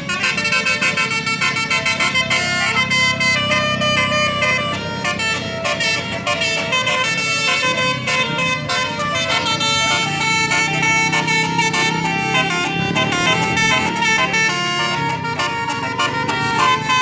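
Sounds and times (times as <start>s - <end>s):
bus multi-tone horn tune: 0.0s - 17.0s
engine running: 0.0s - 17.0s.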